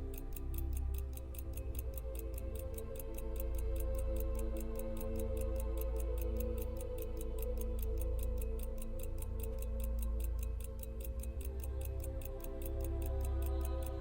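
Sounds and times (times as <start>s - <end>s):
background music of sustained tones: 0.0s - 14.0s
pocket watch ticking: 0.0s - 14.0s.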